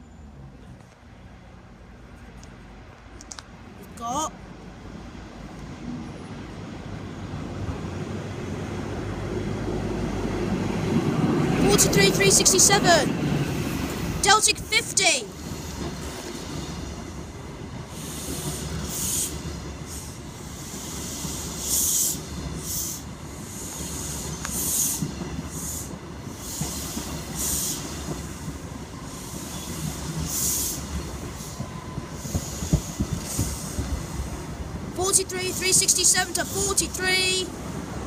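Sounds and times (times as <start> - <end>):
train wheels rumbling on rails: 0.2 - 38.0.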